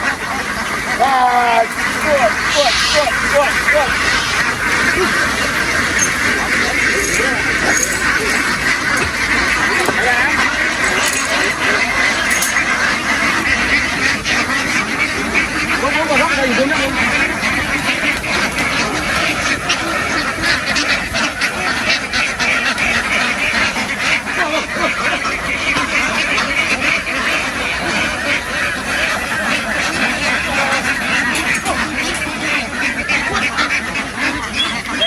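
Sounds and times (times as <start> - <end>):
ducks quacking: 0.0 - 35.0.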